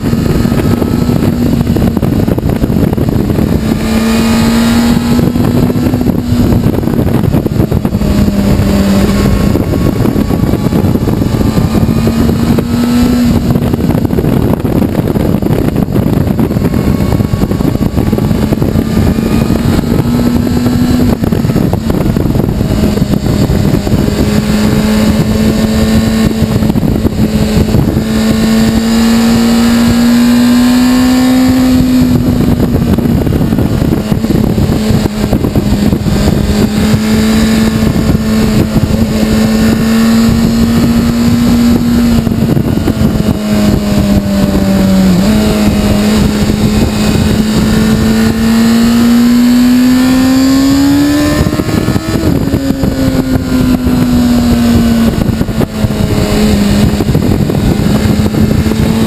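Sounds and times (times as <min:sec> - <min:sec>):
motorcycle engine at speed: 0:00.0 - 0:59.0
wind rush over microphone: 0:00.0 - 0:59.0.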